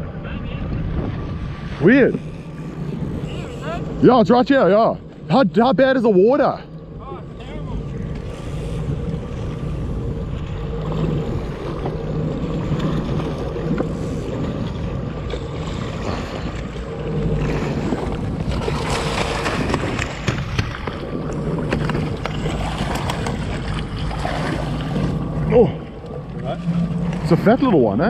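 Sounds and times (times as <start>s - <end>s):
jet ski engine idling: 0.0s - 28.0s
water slapping the hull: 0.0s - 28.0s
wind: 0.0s - 28.0s.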